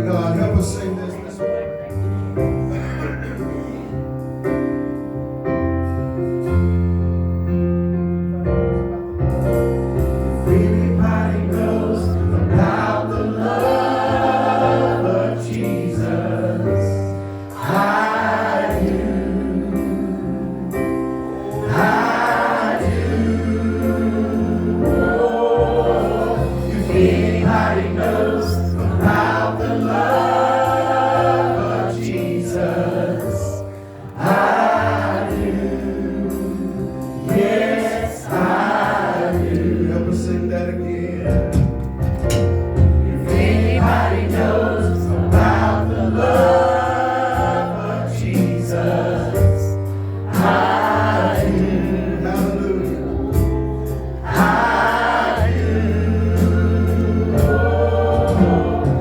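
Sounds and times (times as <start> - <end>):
instrumental accompaniment: 0.0 - 59.0
group singing gospel song: 9.9 - 59.0.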